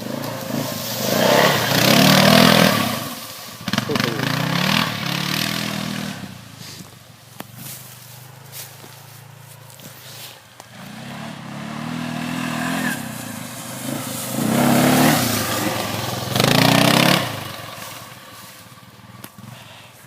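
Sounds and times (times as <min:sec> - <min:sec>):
engine revving: 0:00.0 - 0:19.9.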